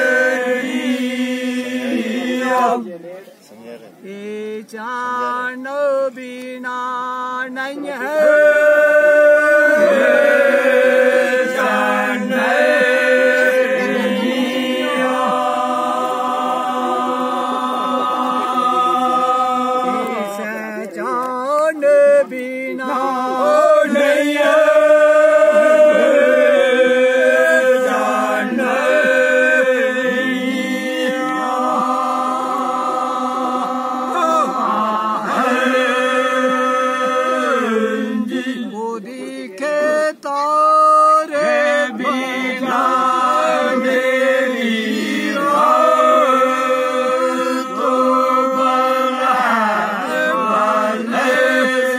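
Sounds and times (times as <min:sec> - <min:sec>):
men singing folk chant unaccompanied: 0:00.0 - 0:51.9.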